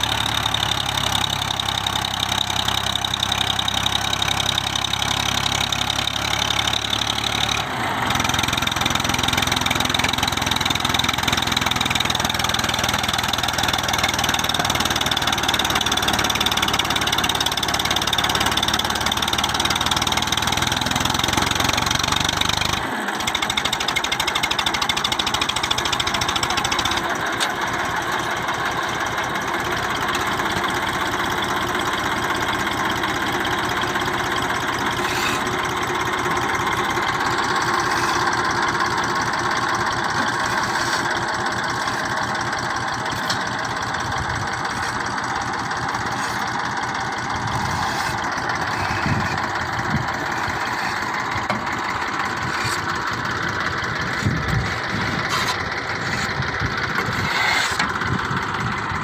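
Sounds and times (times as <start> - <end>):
tractor diesel engine chugging: 0.0 - 59.0.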